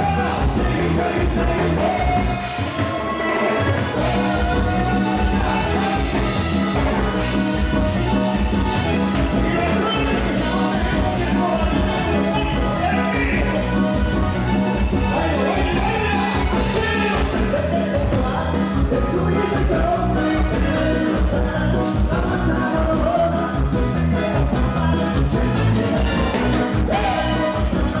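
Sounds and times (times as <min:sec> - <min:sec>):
latin dance music: 0:00.0 - 0:28.0.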